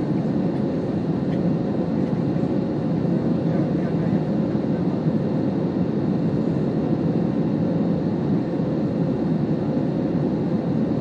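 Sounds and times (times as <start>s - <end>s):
airliner engines and rushing air: 0.0s - 11.0s.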